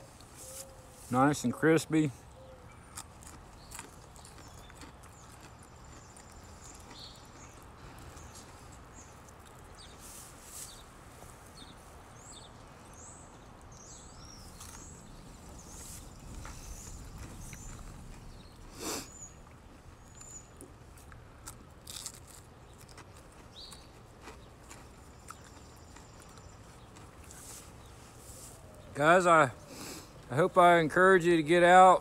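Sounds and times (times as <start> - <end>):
birds chirping: 0.0 - 21.5, 22.5 - 32.0
crunchy chewing: 2.1 - 28.9.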